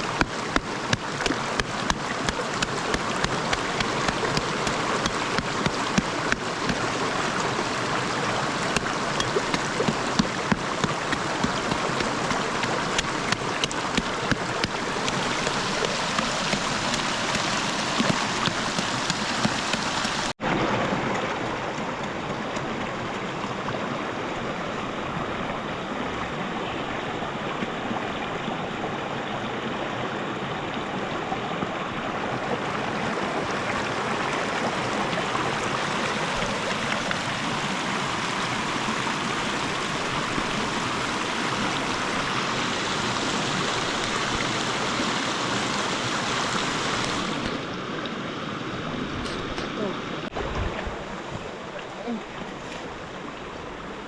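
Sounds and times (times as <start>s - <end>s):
river water rushing and splashing: 0.0s - 54.0s.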